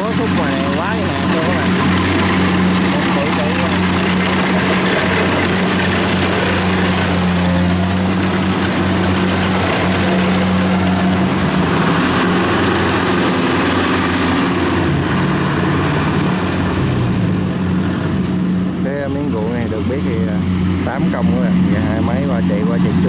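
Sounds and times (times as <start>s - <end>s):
combine harvester diesel engine: 0.0s - 23.0s
tracked carrier engine: 0.0s - 23.0s.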